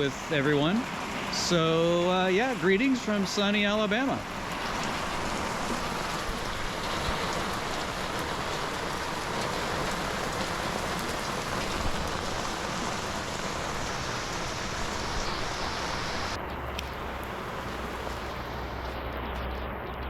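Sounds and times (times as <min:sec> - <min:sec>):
heavy rain on umbrella: 0:00.0 - 0:19.3.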